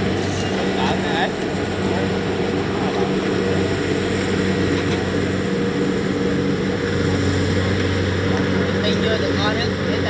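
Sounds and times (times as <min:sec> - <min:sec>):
combine harvester diesel engine drone: 0:00.0 - 0:10.0.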